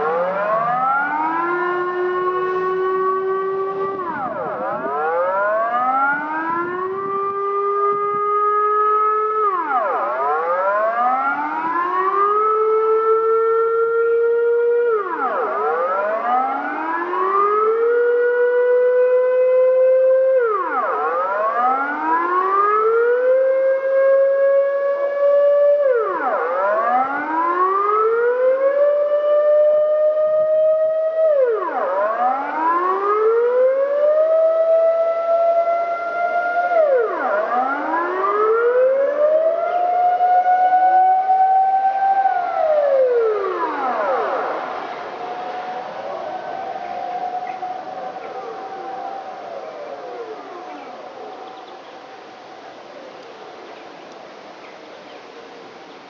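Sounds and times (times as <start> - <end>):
air raid siren wailing: 0.0 - 55.8.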